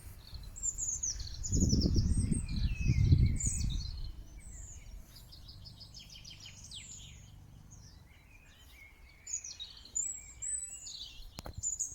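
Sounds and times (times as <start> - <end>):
songbirds singing: 0.0 - 11.9.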